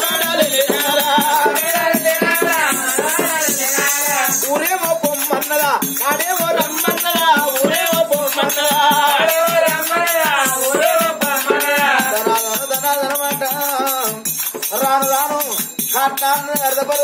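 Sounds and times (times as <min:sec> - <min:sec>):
folk singing: 0:00.0 - 0:14.2
jingling ankle bells: 0:00.0 - 0:17.0.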